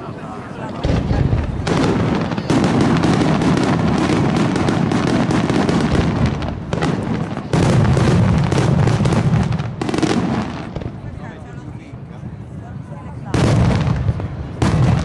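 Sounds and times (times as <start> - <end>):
fireworks booming and crackling: 0.6 - 12.4, 13.2 - 15.0.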